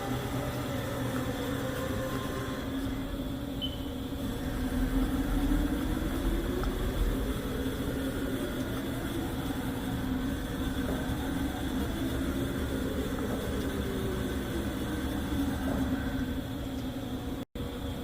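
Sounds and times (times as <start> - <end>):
machining center motor hum: 0.0 - 18.0.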